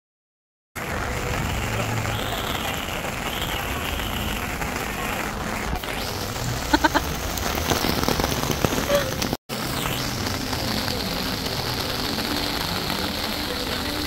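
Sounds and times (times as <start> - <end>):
rain on pavement: 0.8 - 14.0.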